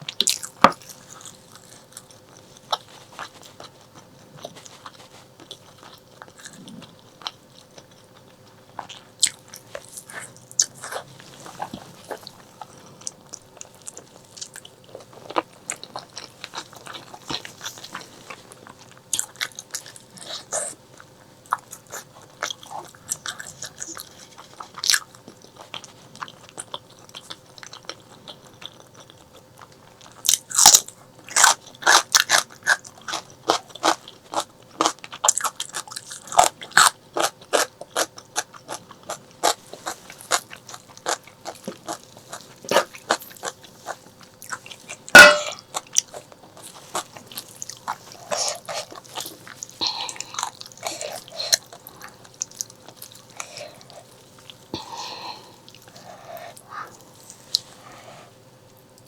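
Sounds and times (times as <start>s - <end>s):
crisp crunching and chewing: 0.0s - 57.8s
wet chewing: 0.0s - 58.0s.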